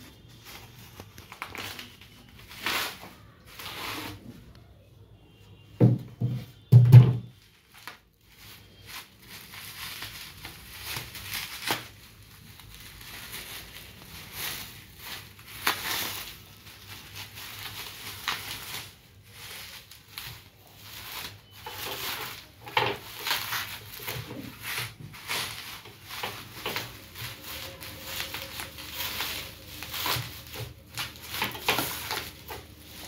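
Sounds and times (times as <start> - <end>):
bubble wrap crinkling: 0.0 - 5.4, 7.3 - 33.0.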